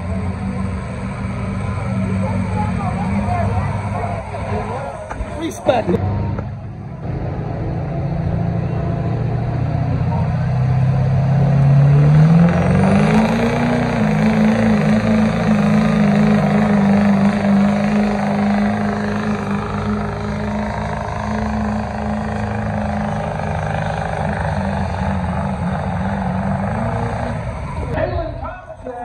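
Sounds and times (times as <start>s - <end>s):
diesel truck engine at full throttle: 0.0s - 29.0s.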